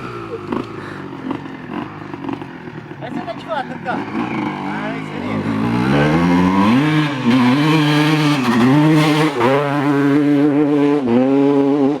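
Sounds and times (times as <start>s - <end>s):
motocross engine revving: 0.0s - 11.9s.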